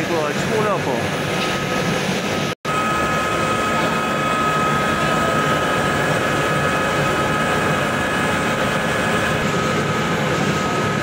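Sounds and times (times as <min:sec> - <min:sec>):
constant high whine: 0:00.0 - 0:11.0
pellet mill mechanical din: 0:00.0 - 0:11.0.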